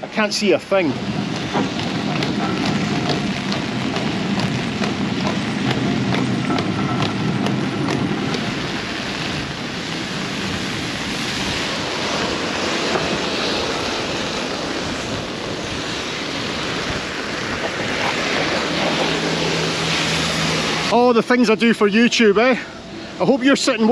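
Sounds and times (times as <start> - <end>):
heavy rain: 0.0 - 23.9
strong wind: 0.0 - 23.9
wind on microphone: 0.7 - 20.9.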